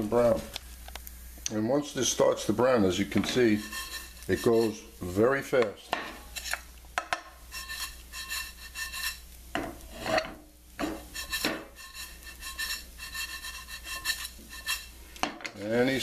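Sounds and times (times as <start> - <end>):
wooden spoon scraping a skillet: 2.0 - 16.0.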